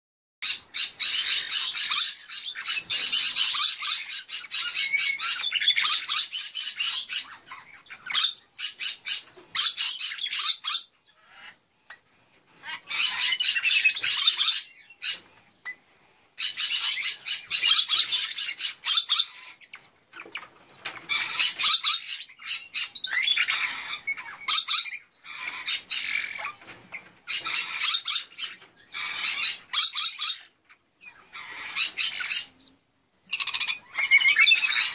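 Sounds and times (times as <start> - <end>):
nestlings raspy begging calls: 0.4 - 12.0, 12.6 - 34.9.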